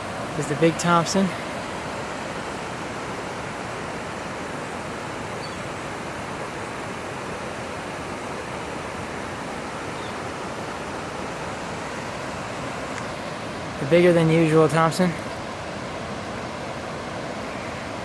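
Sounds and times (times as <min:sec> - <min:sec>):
rushing floodwater: 0:00.0 - 0:18.0.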